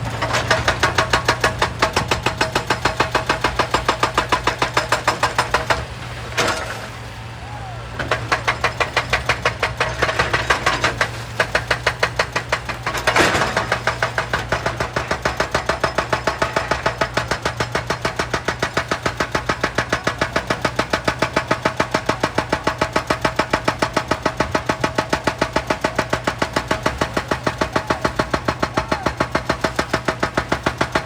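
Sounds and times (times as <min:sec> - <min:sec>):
excavator engine pulsing: 0:00.0 - 0:31.0.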